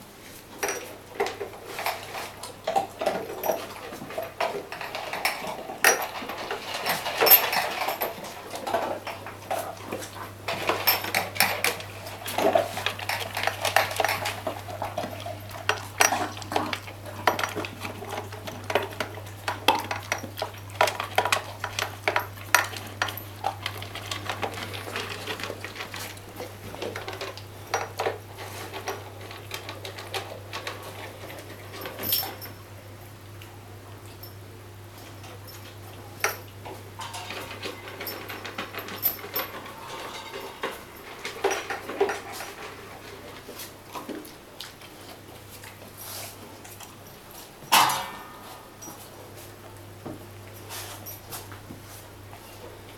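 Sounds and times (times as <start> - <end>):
dog eating from bowls: 0.3 - 52.9
bowls clattering and clinking: 0.6 - 32.6, 35.2 - 45.8.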